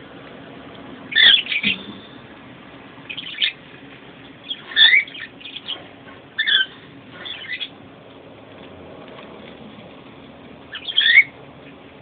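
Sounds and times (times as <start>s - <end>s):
caged birds chirping and calling: 0.5s - 12.0s.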